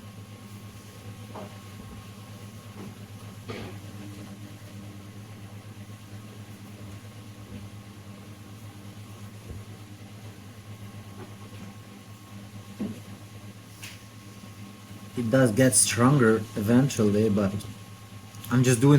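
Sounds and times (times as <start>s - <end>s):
electrical hum of small machine: 0.0s - 18.9s.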